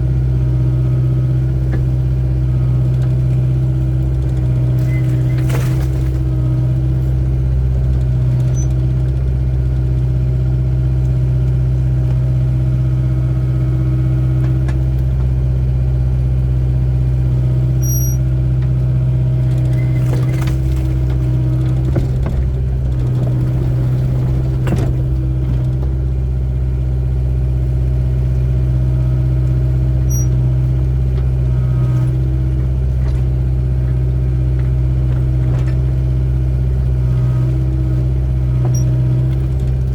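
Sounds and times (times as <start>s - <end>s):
excavator diesel engine humming: 0.0s - 39.9s
excavator clunks: 0.6s - 10.5s, 13.5s - 15.5s, 17.6s - 27.7s, 28.4s - 39.9s.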